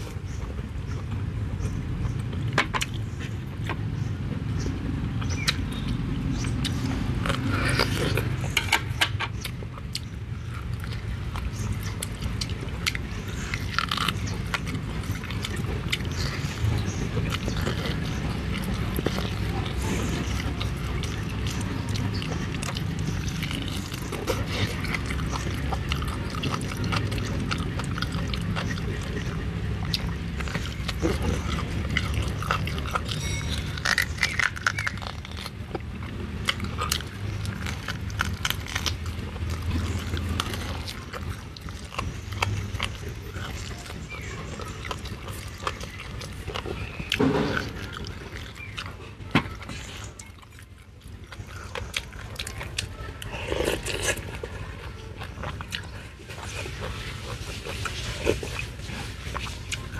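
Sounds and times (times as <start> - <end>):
chewing and lip-smacking: 0.0 - 59.9.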